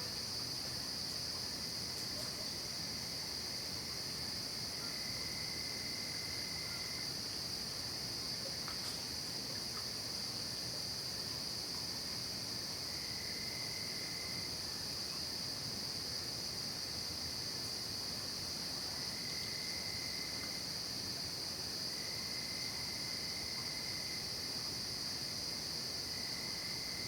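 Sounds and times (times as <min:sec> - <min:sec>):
crickets trilling: 0:00.0 - 0:27.0
lower insect trill: 0:00.0 - 0:27.0.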